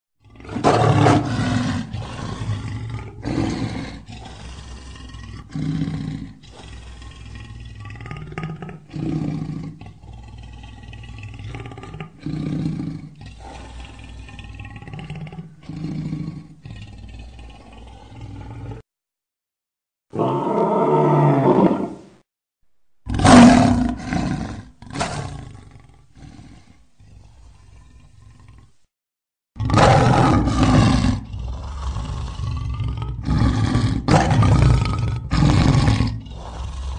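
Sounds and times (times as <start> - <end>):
tiger low rumbling growl: 0.2 - 18.8, 23.1 - 28.9, 29.6 - 36.9
tiger roaring: 0.2 - 18.8, 20.1 - 22.1, 23.0 - 28.8, 29.6 - 36.9.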